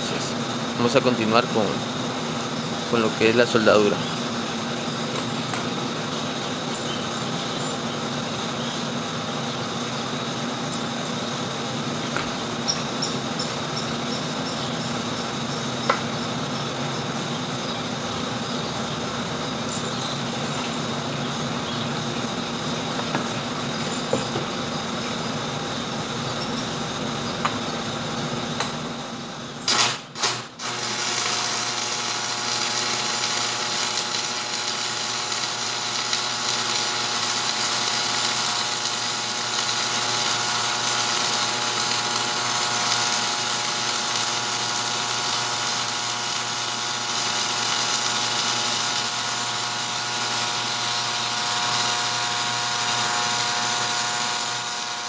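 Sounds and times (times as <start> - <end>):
steady mechanical hum: 0.0 - 55.0
welding arc crackling sizzle: 0.0 - 55.0.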